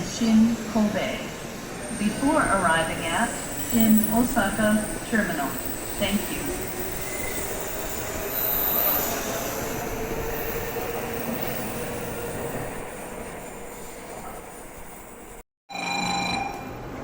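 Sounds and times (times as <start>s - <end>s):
train braking with whining wheels: 0.0s - 15.4s.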